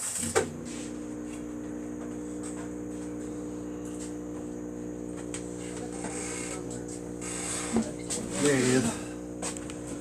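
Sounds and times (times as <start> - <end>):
dishwasher motor humming: 0.0 - 10.0.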